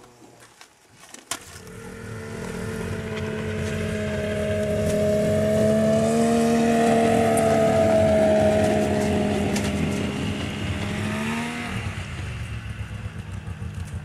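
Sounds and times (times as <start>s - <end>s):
snowmobile engine running: 1.5s - 14.0s.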